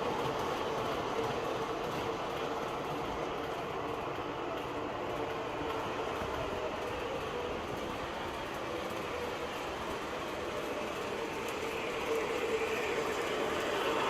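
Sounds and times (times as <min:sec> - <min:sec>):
model train rumbling: 0:00.0 - 0:14.0.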